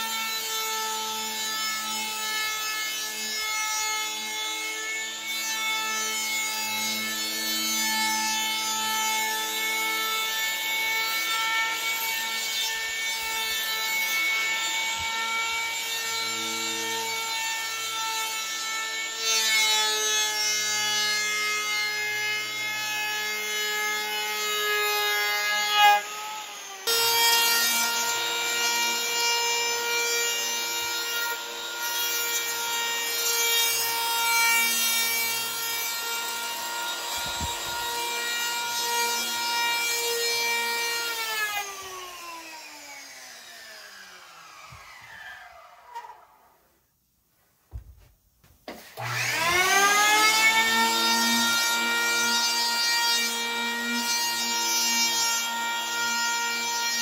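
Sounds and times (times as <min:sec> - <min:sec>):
electric hand planer whining: 0:00.0 - 0:46.8, 0:48.7 - 0:57.0
planer rasping through foam: 0:00.0 - 0:46.8, 0:48.7 - 0:57.0.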